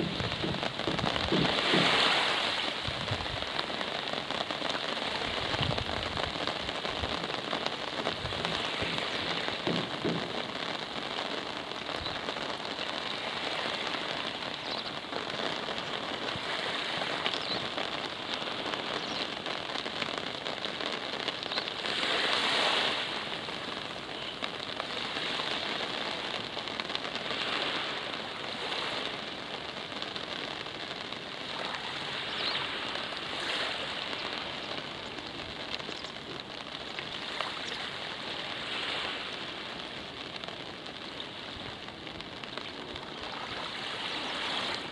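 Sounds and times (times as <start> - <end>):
small waves lapping on shore: 0.0 - 44.9
steady rain falling: 0.0 - 44.9.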